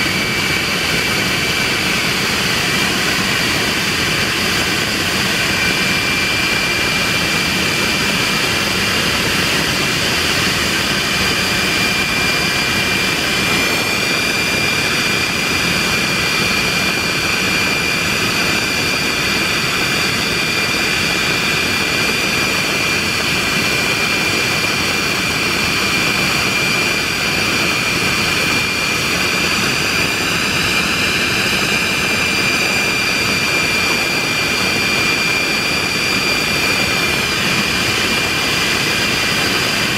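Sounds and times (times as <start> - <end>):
jet engine running with whine: 0.0 - 39.9.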